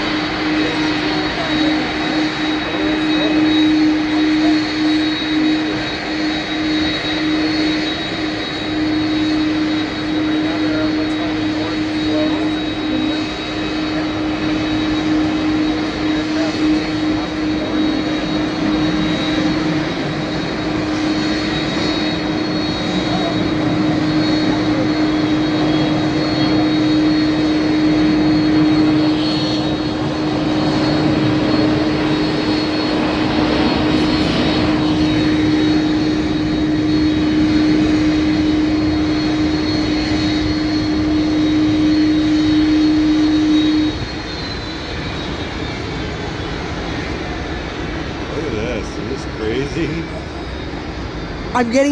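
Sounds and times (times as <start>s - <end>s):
jet engine drone: 0.0s - 51.9s.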